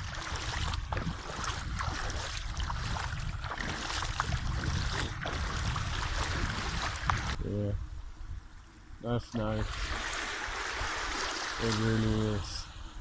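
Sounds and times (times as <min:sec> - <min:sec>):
small waves lapping and splashing: 0:00.0 - 0:07.4, 0:09.4 - 0:13.0
wind rumble on microphone: 0:00.0 - 0:13.0.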